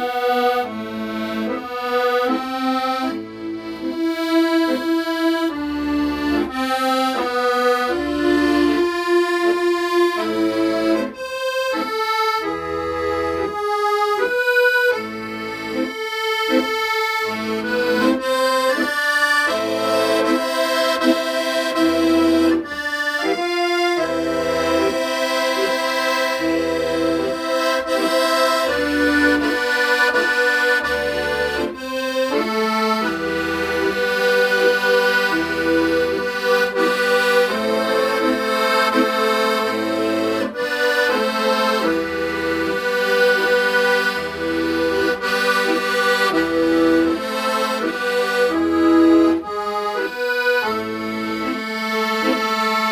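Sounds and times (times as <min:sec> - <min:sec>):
accordion melody: 0:00.0 - 0:52.9.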